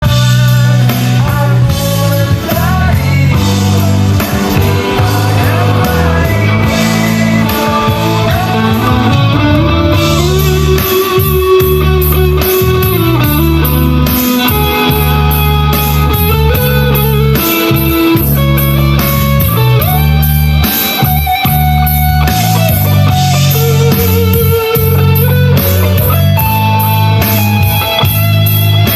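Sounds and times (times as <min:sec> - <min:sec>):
electric guitar lead: 0:00.0 - 0:28.9
rock backing with bass and beat: 0:00.0 - 0:28.9.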